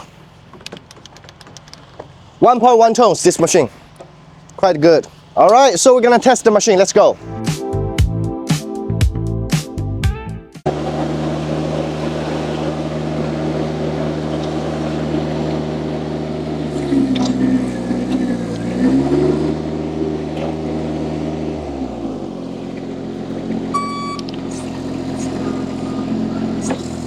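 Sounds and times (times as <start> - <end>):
loader engine running: 0.0 - 8.4, 10.7 - 27.0.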